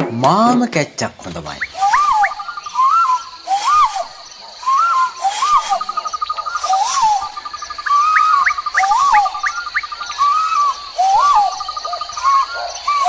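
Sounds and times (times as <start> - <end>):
insect drone: 1.2 - 13.0
bird rising and falling call: 1.4 - 13.0.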